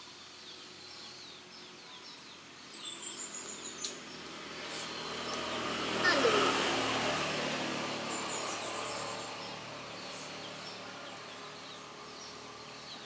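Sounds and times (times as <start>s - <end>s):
bird chirping: 0.0s - 6.7s, 7.6s - 13.0s
outdoor noise with low hum: 0.0s - 13.0s.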